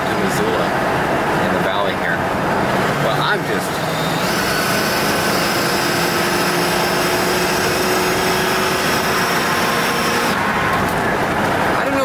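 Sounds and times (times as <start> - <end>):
car engine cruising: 0.0 - 12.0
road and wind noise: 0.0 - 12.0.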